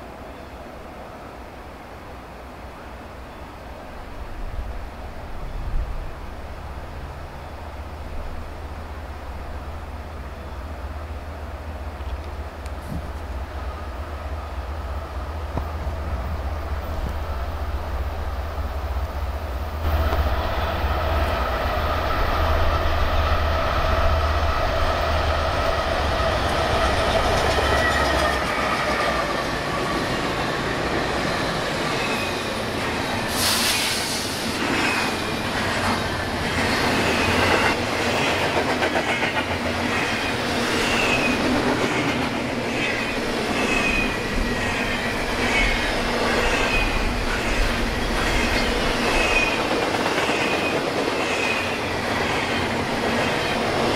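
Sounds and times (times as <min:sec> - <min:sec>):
freight train passing: 0:00.0 - 0:53.9.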